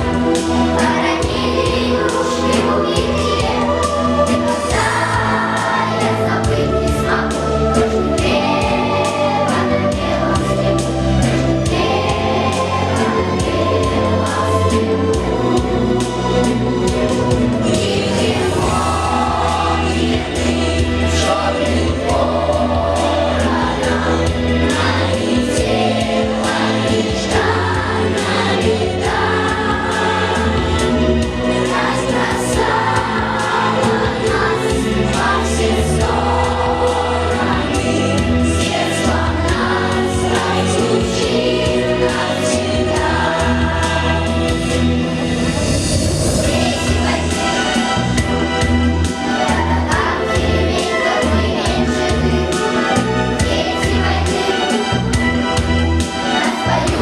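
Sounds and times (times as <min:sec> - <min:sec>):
choir singing: 0:00.0 - 0:57.0
instrumental backing music: 0:00.0 - 0:57.0.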